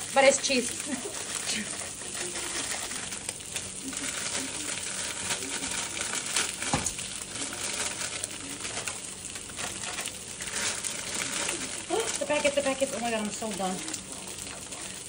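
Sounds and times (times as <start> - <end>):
plastic packets crinkling: 0.0 - 15.0.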